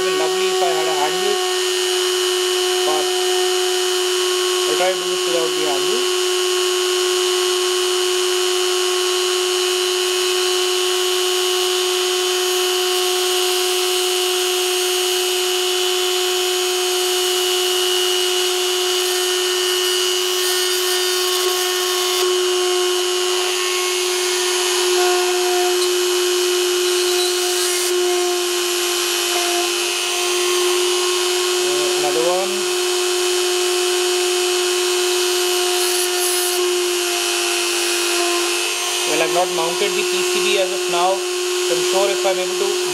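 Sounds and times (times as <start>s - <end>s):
rotary tool drilling whine: 0.0s - 42.9s.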